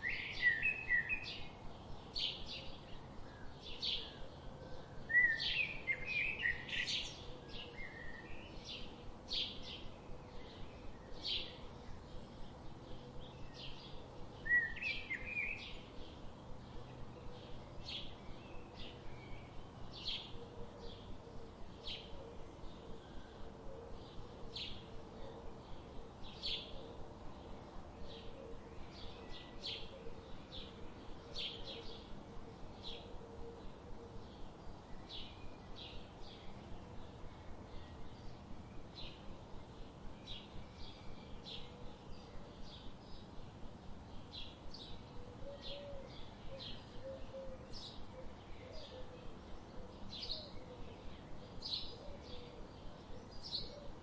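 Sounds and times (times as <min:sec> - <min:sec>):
songbirds chirping: 0:00.0 - 0:54.0
steady background hiss: 0:00.0 - 0:54.0.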